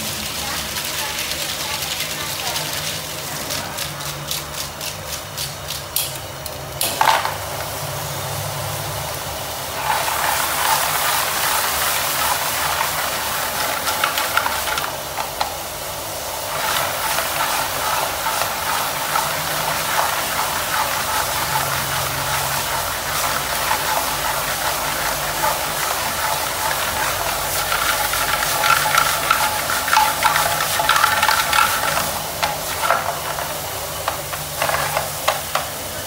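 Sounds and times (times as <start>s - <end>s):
shellfish sizzling in a pan: 0.0s - 36.0s.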